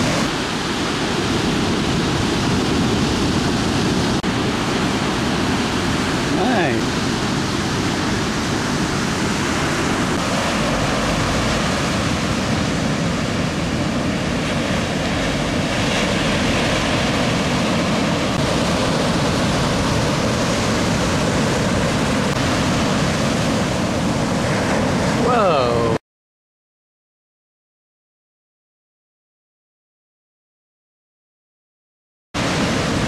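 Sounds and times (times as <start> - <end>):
ocean surf breaking on beach: 0.0 - 26.0, 32.4 - 33.0.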